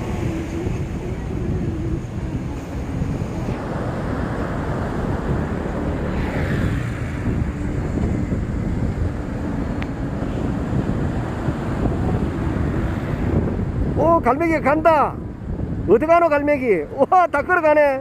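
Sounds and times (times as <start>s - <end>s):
surf washing: 0.0s - 18.0s
wind buffeting microphone: 0.0s - 18.0s.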